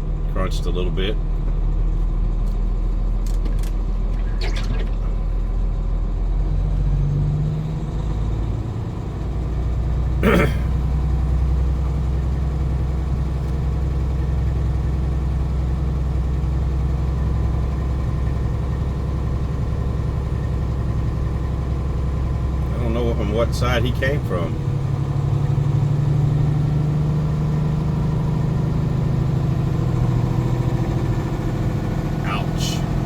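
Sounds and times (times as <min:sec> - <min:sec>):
diesel engine rumbling: 0:00.0 - 0:33.0.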